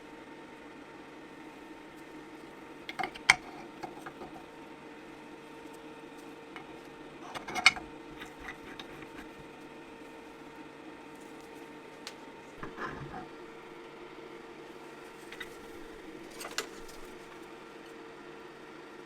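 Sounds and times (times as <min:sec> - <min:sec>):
machine hum: 0:00.8 - 0:19.0.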